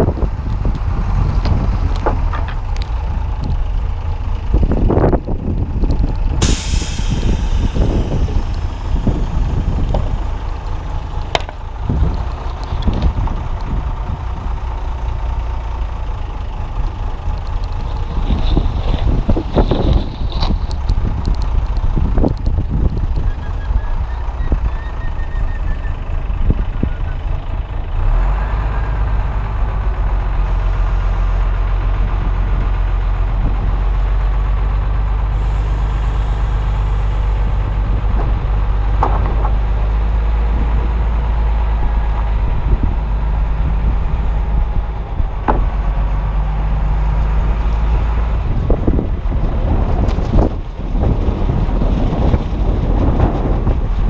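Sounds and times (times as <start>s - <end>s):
heavy vehicle engine running: 0.0s - 54.0s
wind buffeting microphone: 0.0s - 54.0s.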